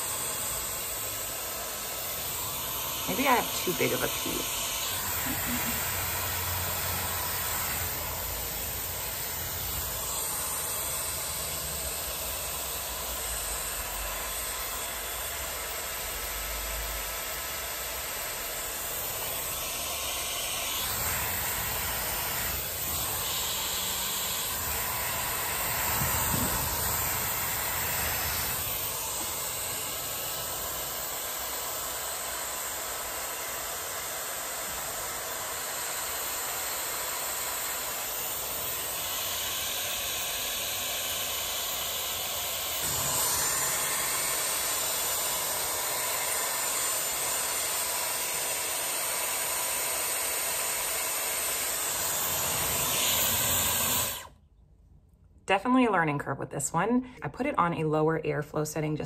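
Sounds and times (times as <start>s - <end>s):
hair styler blowing air: 0.0s - 54.4s.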